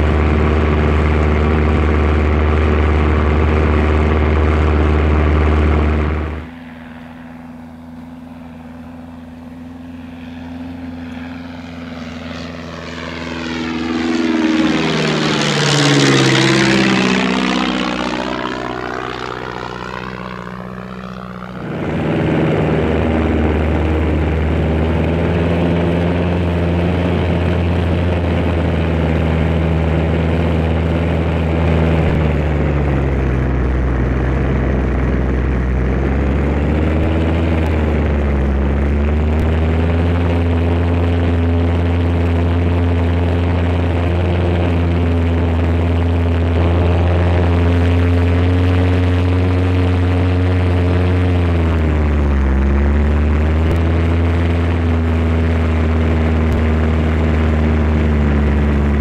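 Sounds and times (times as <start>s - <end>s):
model biplane engine drone: 0.0s - 59.0s.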